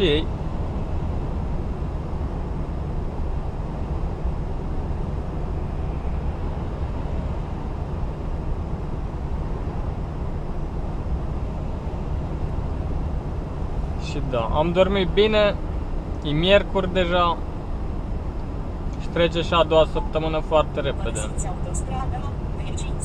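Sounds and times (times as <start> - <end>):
lorry engine drone: 0.0 - 23.0.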